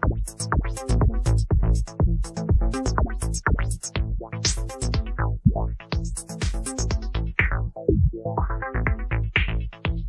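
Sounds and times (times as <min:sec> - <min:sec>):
filtered electronic dance music: 0:00.0 - 0:10.0.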